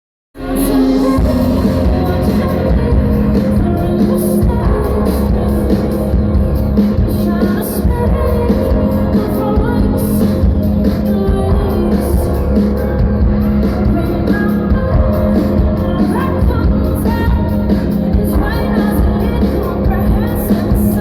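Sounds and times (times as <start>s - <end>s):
person singing: 0.4s - 21.0s
rock band playing: 0.4s - 21.0s.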